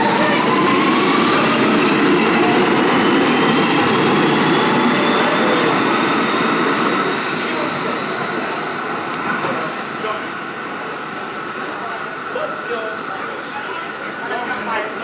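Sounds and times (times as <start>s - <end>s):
train whine rising in pitch: 0.0s - 14.2s
train wheels rumbling on rail: 0.0s - 15.0s.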